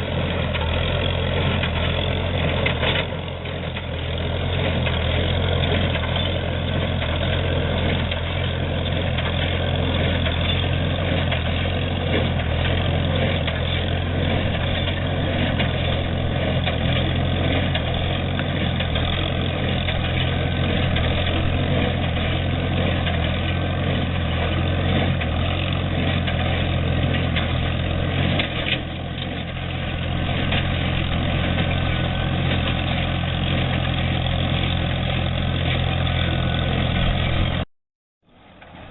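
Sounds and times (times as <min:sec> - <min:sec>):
baler mechanical clatter: 0:00.0 - 0:37.6
tractor engine running: 0:00.0 - 0:38.9.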